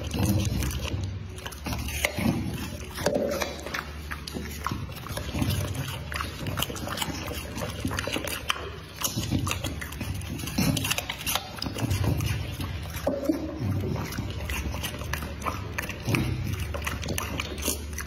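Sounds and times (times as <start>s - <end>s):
dog chewing meat: 0.0s - 18.0s.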